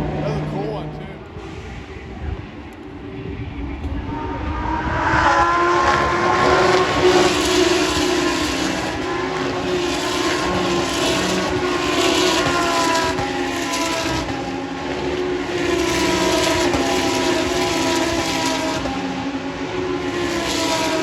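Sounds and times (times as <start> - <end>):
race cars passing at high revs: 0.0 - 21.0.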